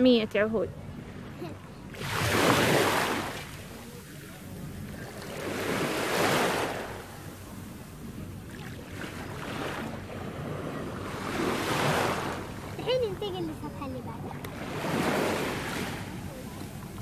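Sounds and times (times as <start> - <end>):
sea waves washing in: 0.8 - 17.0.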